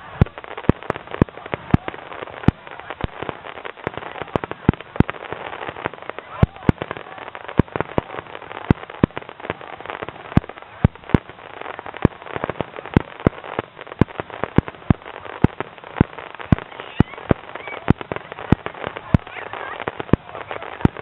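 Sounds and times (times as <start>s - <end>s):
continuous hiss: 0.0s - 21.0s
fireworks bangs: 0.0s - 21.0s.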